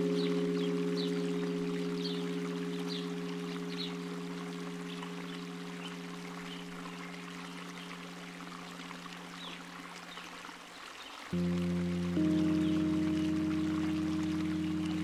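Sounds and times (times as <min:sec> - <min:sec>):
low ambient chord: 0:00.0 - 0:09.8, 0:11.4 - 0:15.0
flowing water: 0:00.0 - 0:15.0.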